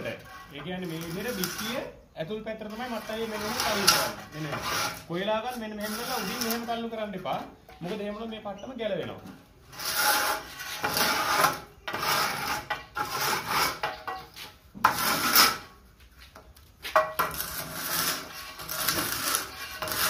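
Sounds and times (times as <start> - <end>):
straight edge scraping cement plaster: 0.0 - 8.5, 9.6 - 15.8, 16.8 - 20.0.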